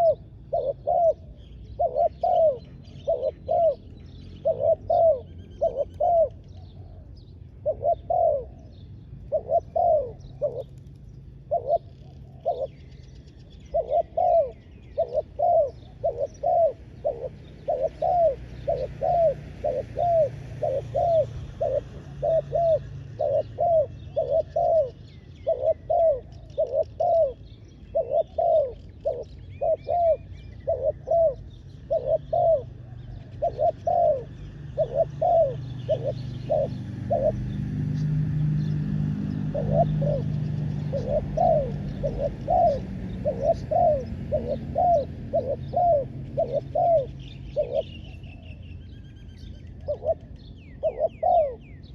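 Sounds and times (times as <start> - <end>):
doves cooing: 0.0 - 48.6, 49.7 - 51.9.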